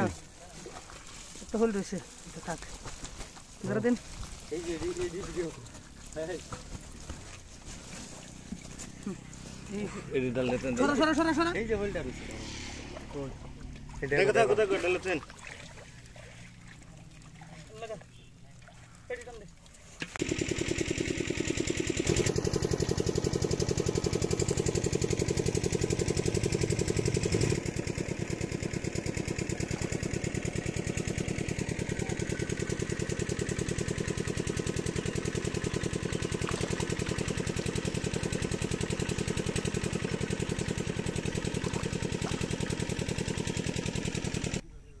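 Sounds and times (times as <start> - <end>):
small engine running: 1.5 - 19.0, 20.0 - 44.6.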